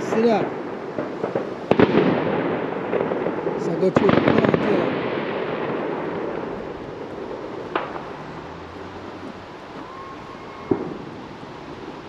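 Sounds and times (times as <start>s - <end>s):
distant fireworks bangs: 0.0s - 12.0s
steady outdoor rumble: 0.0s - 12.0s.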